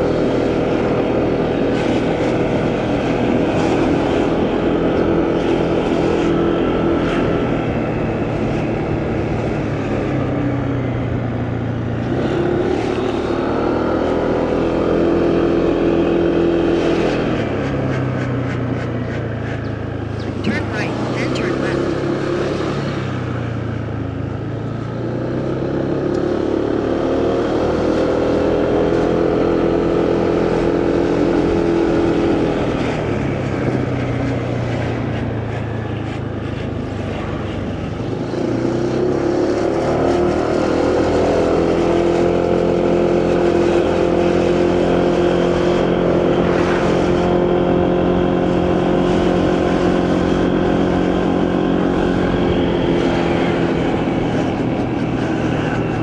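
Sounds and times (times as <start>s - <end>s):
motorcycle engine accelerating: 0.0s - 20.6s, 21.5s - 56.0s.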